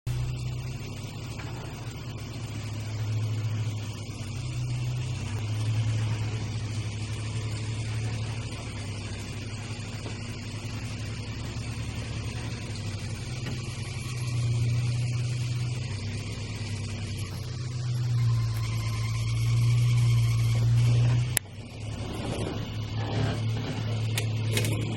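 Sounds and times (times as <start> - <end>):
vehicle engine droning: 0.0 - 24.9.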